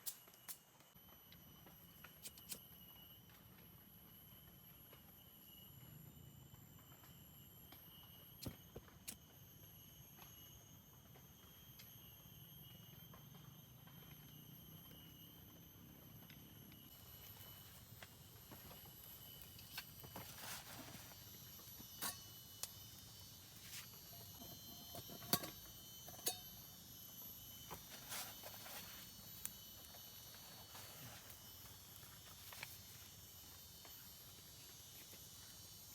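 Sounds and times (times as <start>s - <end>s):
high-pitched insect calls: 0.0s - 35.9s.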